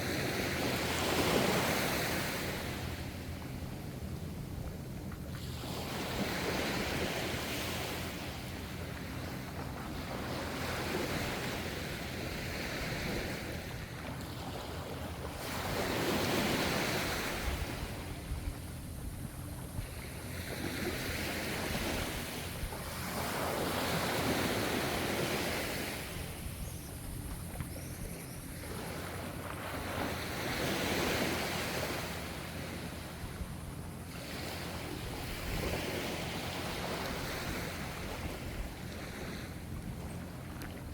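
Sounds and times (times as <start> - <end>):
ocean waves washing on shore: 0.0 - 40.9.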